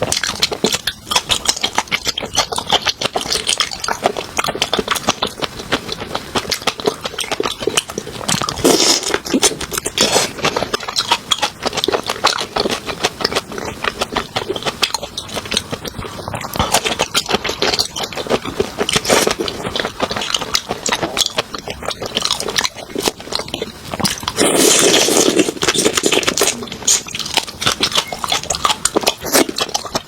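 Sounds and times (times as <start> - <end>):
person chewing with wet mouth sounds: 0.0 - 30.0.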